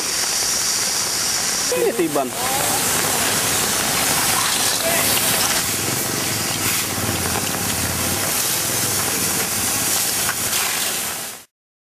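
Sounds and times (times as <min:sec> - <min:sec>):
water jet spraying hiss: 0:00.0 - 0:11.5.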